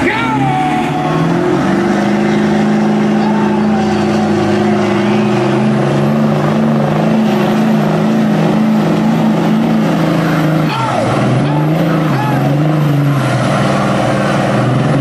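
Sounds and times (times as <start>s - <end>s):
truck engines at high revs: 0.0s - 15.0s.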